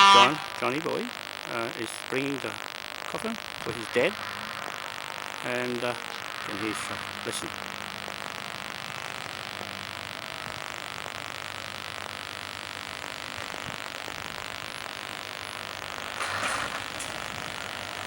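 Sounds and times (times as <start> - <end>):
outdoor noise hiss: 0.0 - 18.0.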